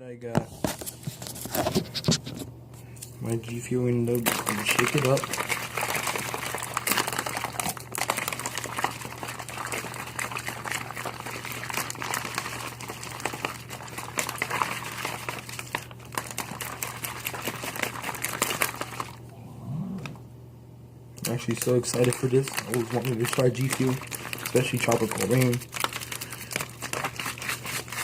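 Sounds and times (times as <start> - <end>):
shaker bottle sloshing and rattling: 3.4 - 19.3, 21.2 - 28.0.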